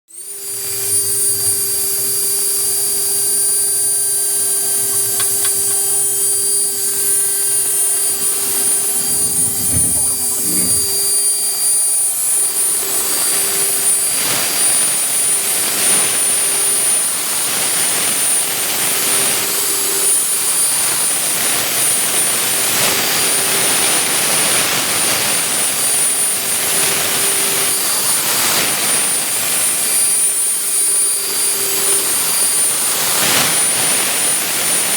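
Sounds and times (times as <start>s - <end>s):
milling machine whine and hiss: 0.1s - 34.9s.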